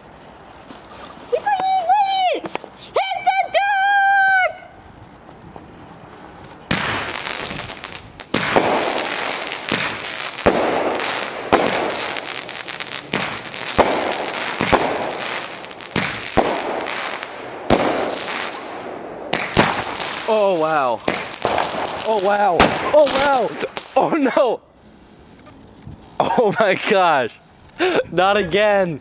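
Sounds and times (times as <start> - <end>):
fireworks bangs with hissing rush: 0.0 - 28.0
fuse burning: 0.0 - 28.0.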